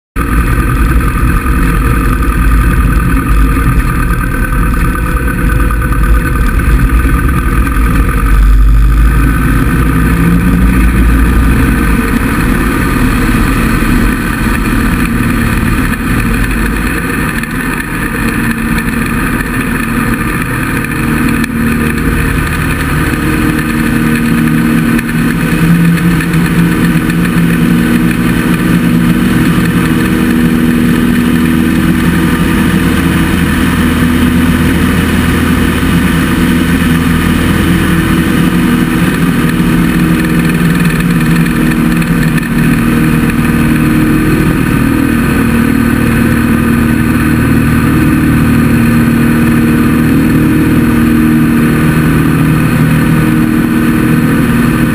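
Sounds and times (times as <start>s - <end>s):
airplane piston engine and propeller: 0.2s - 54.9s.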